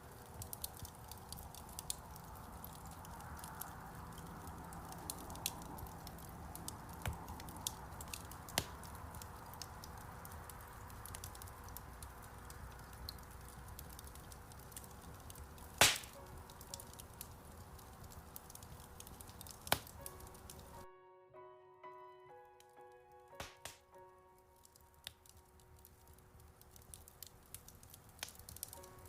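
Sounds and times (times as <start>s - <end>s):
loud fire crack: 0.0s - 20.8s, 23.4s - 23.8s, 24.6s - 29.0s
wood fire crackling: 0.0s - 20.9s, 22.6s - 29.0s.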